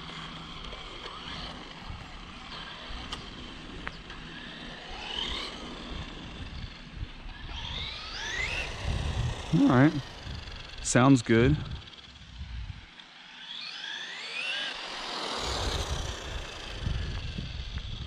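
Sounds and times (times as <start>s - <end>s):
electric toy car motor whining: 0.0s - 10.9s, 11.5s - 18.0s.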